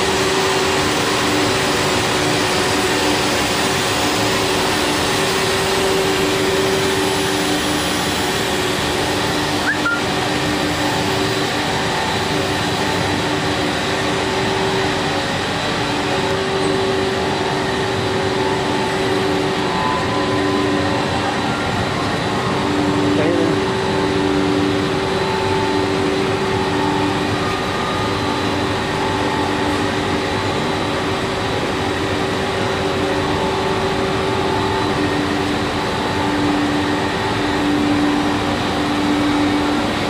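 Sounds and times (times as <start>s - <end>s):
production line machinery running: 0.0s - 40.0s.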